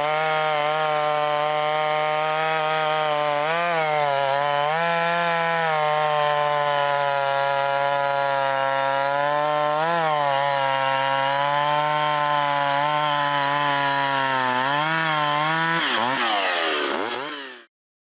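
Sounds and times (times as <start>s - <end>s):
chainsaw cutting wood: 0.0s - 17.7s.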